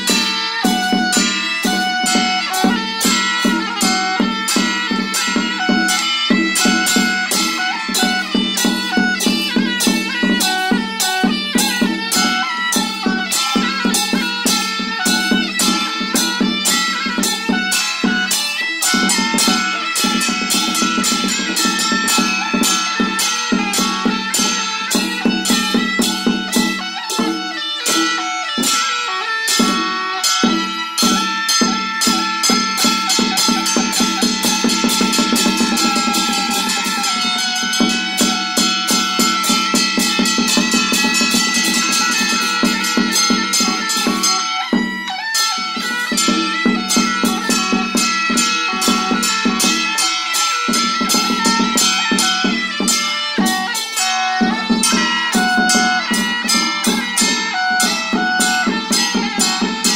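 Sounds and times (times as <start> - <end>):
barrel drum beating: 0.0 - 59.9
shrill reed wind instrument: 0.0 - 59.9
sustained melody: 0.0 - 59.9.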